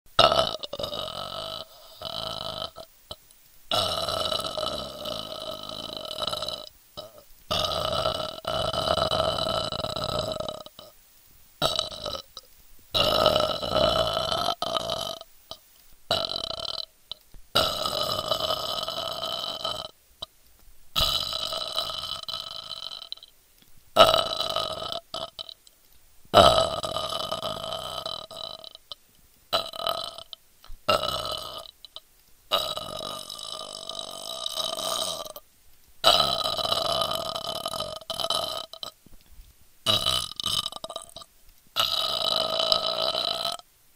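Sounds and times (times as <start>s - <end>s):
person burping: 0.1s - 10.9s, 11.6s - 20.0s, 21.0s - 23.3s, 24.0s - 25.7s, 26.3s - 35.4s, 36.0s - 39.0s, 39.8s - 43.6s.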